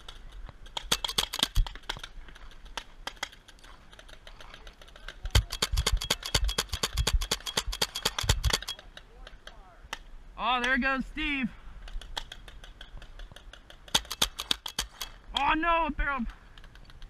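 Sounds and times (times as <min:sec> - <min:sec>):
paintball markers firing: 0:00.0 - 0:10.8, 0:11.8 - 0:15.6.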